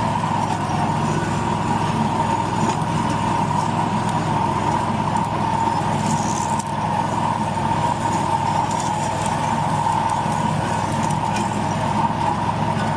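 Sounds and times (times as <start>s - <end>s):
lawn mower engine running: 0.0s - 12.9s.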